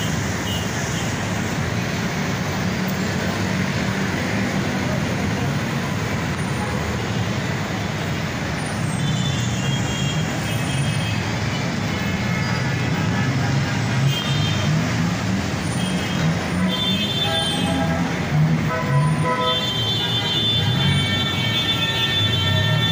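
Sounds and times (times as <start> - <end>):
road traffic engine hum: 0.0 - 22.9.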